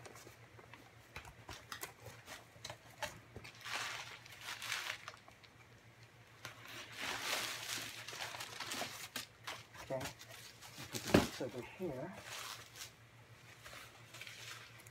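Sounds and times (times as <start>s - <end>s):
packing paper crinkling: 1.4s - 5.7s, 6.3s - 14.9s.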